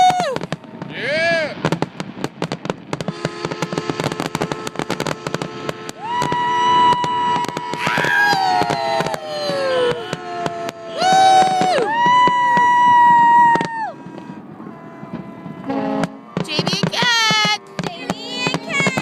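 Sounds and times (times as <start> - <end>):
fireworks crackling: 0.0 - 19.0
high firework whistles: 2.9 - 19.0.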